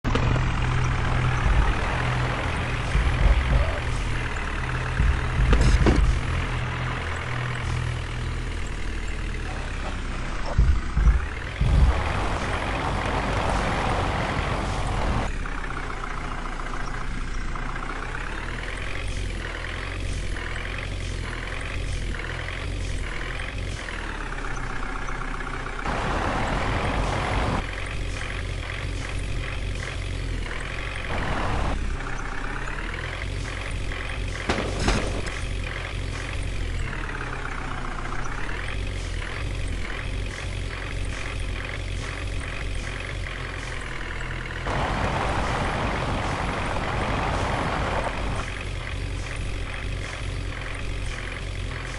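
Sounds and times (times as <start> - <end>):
tractor engine rumbling: 0.0 - 51.9.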